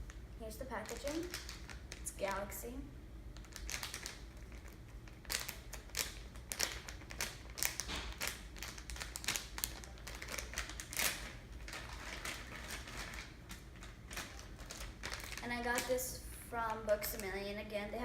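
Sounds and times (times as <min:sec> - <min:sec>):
plastic packaging crinkling: 0:00.0 - 0:02.5, 0:03.4 - 0:17.5.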